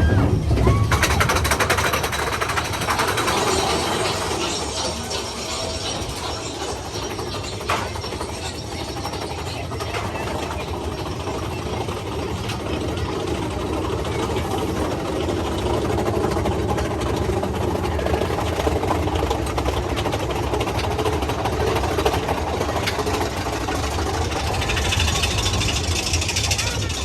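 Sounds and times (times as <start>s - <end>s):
roller coaster cars rattling: 0.0s - 27.0s.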